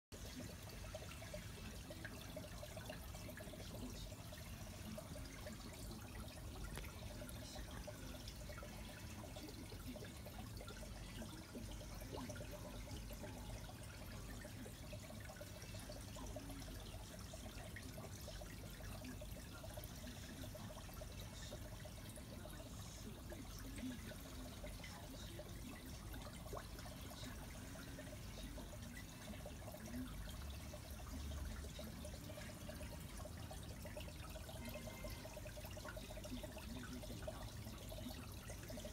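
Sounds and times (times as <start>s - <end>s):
water trickling and bubbling: 0.1s - 38.9s
faint steady hum: 0.2s - 38.9s.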